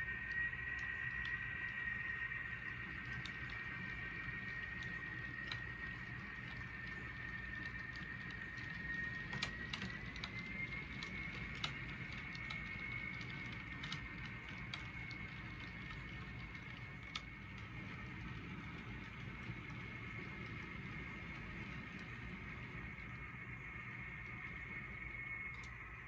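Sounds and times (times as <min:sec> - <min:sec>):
model train cars rumbling: 0:00.0 - 0:26.0
steady high whine: 0:00.0 - 0:26.0
wheels clicking over rail joints: 0:02.5 - 0:25.7.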